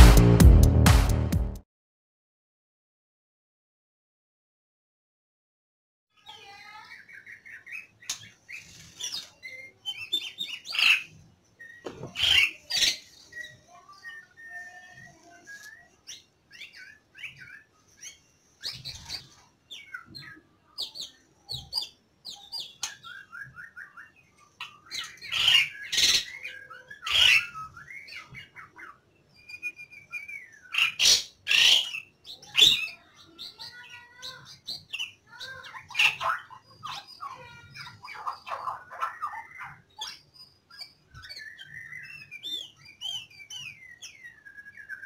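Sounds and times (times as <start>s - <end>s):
bird singing and calling: 6.2s - 45.0s.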